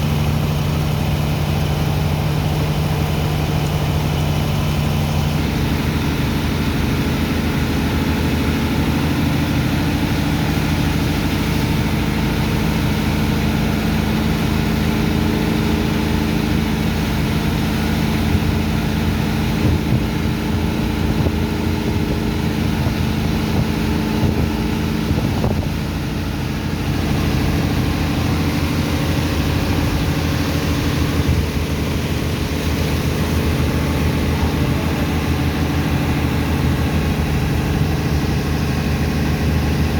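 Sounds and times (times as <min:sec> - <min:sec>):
heavy pump engine running: 0:00.0 - 0:39.9.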